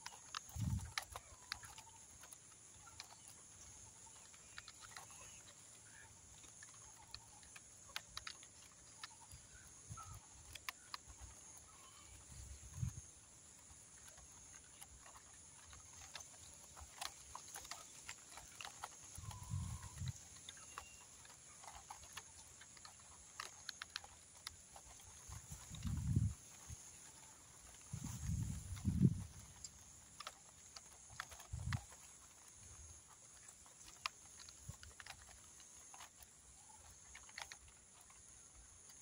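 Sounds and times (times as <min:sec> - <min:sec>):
small clicks: 0:00.0 - 0:39.0.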